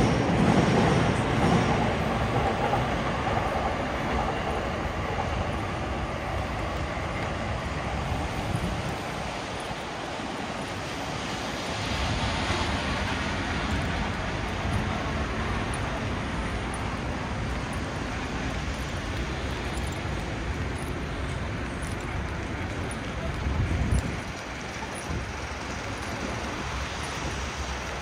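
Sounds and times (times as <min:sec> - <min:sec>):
passing traffic rumble: 0:00.0 - 0:28.0.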